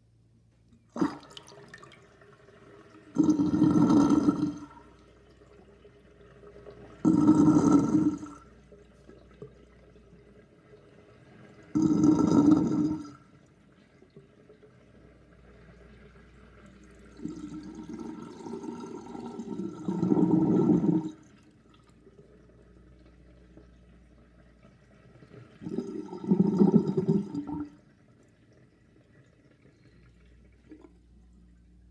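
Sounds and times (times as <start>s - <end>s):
water trickling: 0.6s - 31.9s
sink drain gurgling: 0.7s - 24.9s, 25.5s - 31.9s.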